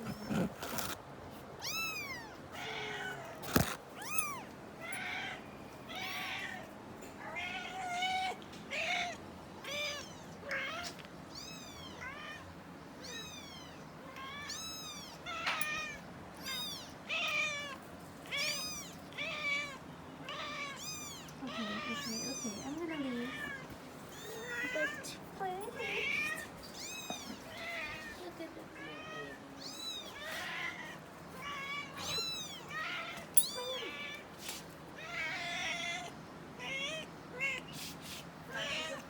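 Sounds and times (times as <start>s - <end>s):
kittens meowing: 1.6s - 34.3s, 35.0s - 37.8s.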